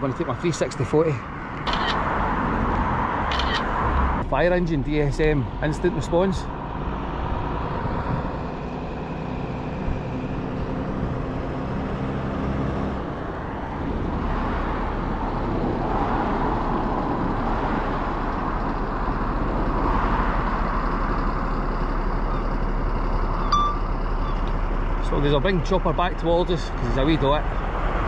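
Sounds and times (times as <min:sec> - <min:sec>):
fire engine engine rumble: 0:00.0 - 0:28.0.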